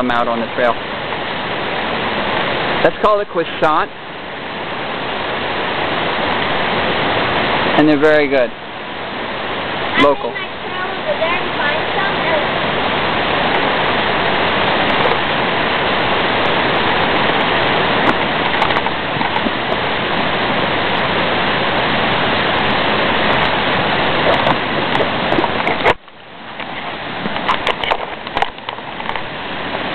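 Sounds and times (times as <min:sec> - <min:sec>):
rushing running water: 0:00.0 - 0:29.9.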